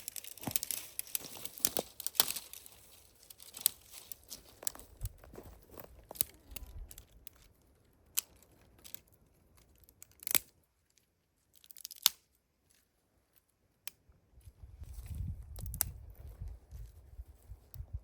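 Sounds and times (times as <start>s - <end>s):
rustles of things handled: 0.0s - 18.0s.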